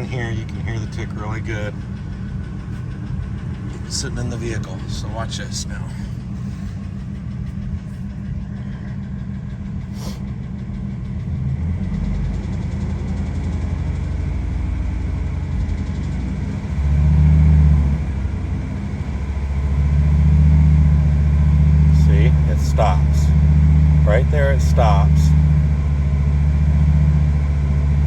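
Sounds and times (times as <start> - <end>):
fast light engine ticking: 0.0 - 28.0
truck engine idling: 0.0 - 28.0.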